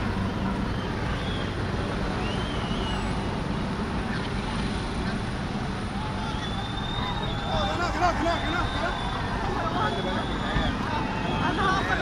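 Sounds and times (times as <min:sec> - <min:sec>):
distant voices: 0:00.0 - 0:12.0
running car engines: 0:00.0 - 0:12.0.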